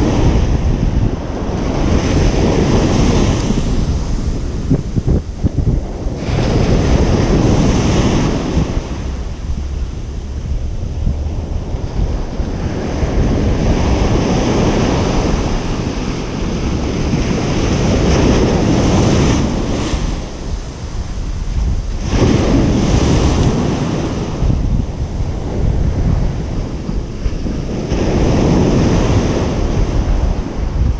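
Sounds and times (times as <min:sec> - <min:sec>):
ocean surf breaking: 0:00.0 - 0:30.9
wind rumbling on microphone: 0:00.0 - 0:30.9.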